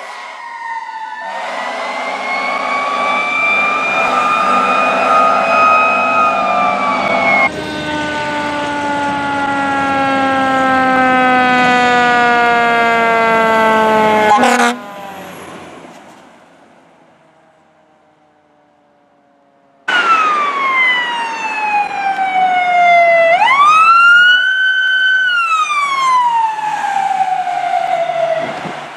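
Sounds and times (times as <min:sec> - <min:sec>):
fire truck siren wailing: 0:00.0 - 0:28.9.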